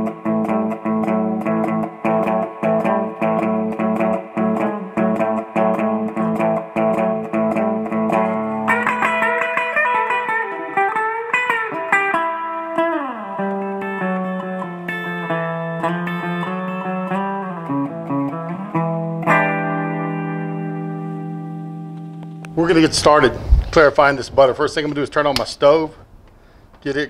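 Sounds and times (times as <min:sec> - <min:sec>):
bending guitar notes: 0:00.0 - 0:23.7
picked guitar rhythm: 0:00.0 - 0:23.8.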